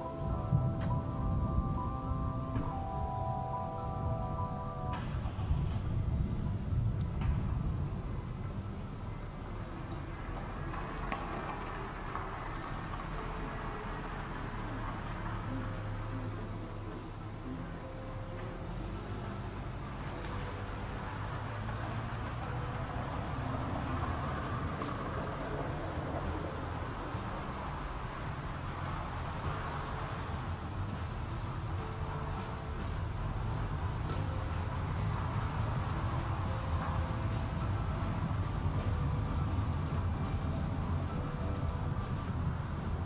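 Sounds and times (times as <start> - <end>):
low rumbling noise: 0.0 - 43.0.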